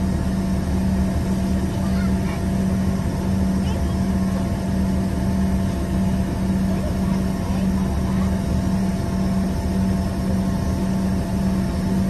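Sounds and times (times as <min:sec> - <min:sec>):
constant low hum: 0:00.0 - 0:12.0
jet engines droning: 0:00.0 - 0:12.0.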